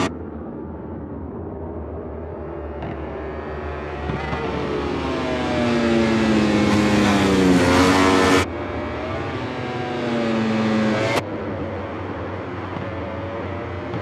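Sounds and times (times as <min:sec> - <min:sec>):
race motorcycle engines at high revs: 0:02.8 - 0:14.0.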